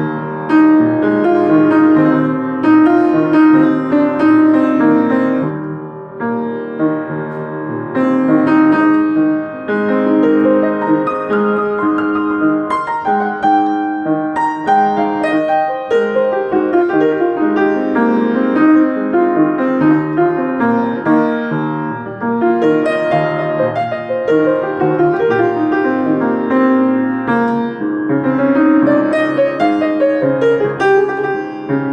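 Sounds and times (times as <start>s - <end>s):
solo piano: 0.0s - 31.9s.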